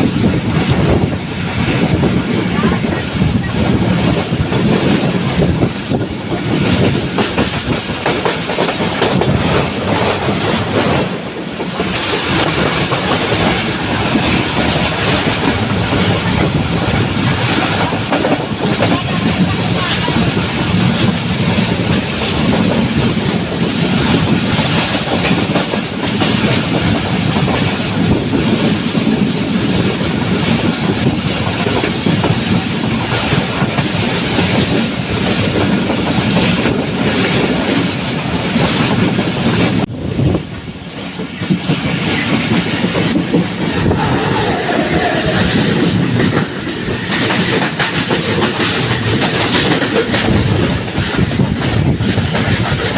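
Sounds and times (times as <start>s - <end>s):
train wheels clattering over rails: 0.0s - 52.9s.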